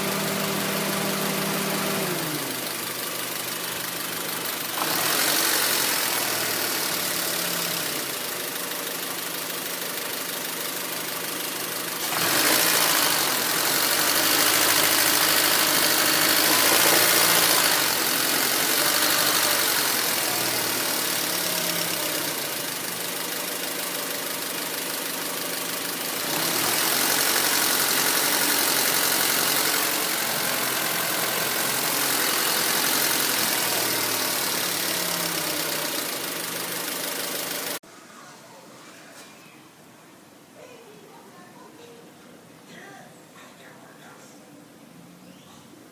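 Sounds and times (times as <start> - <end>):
car engine idling roughly: 0.0 - 37.8.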